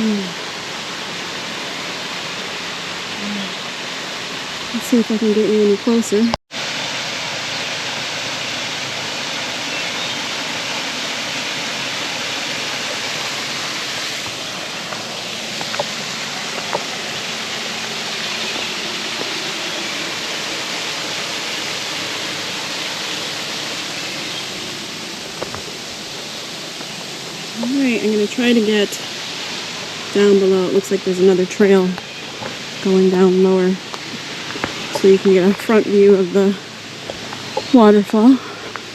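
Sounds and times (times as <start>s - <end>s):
water rushing over dam spillway: 0.0s - 38.9s.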